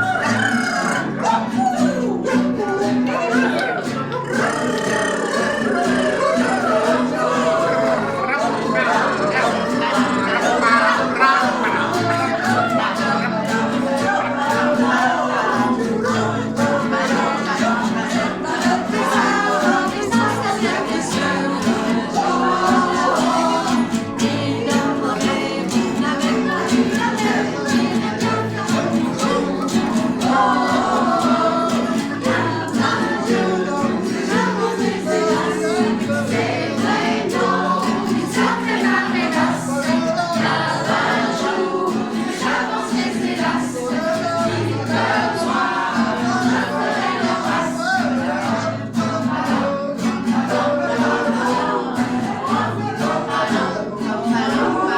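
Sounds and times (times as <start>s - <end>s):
group of people singing: 0.0s - 54.9s.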